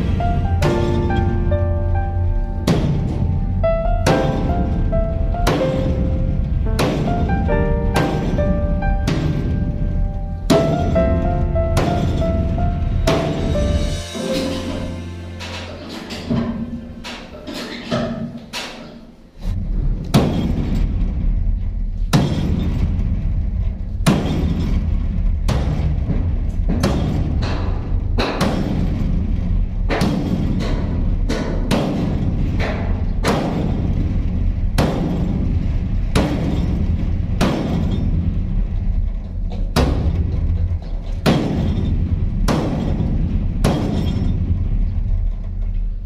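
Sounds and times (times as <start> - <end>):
steady low rumble: 0.0 - 17.5, 19.3 - 46.0
sledgehammer striking steel wall: 0.0 - 45.7.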